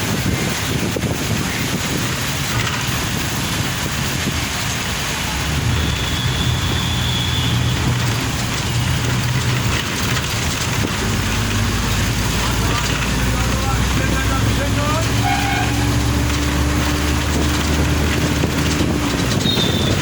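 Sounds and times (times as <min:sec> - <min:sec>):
heavy rain and wet road noise: 0:00.0 - 0:20.0
low engine hum: 0:02.1 - 0:20.0.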